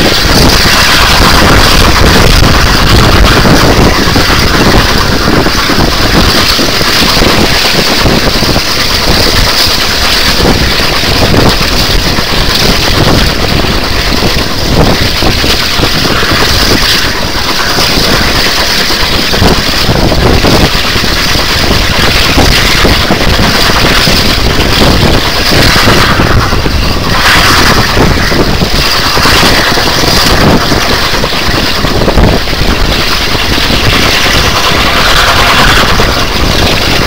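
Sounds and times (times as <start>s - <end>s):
train rumble: 0.0s - 37.0s
wind buffeting the microphone: 0.0s - 37.0s.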